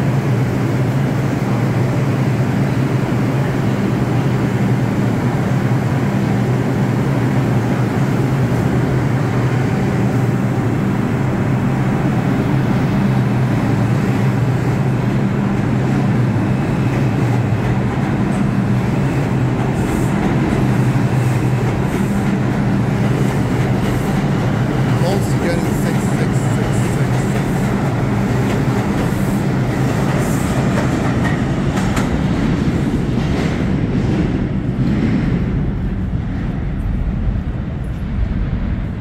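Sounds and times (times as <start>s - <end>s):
wheels rumbling on rails: 0.0s - 39.0s.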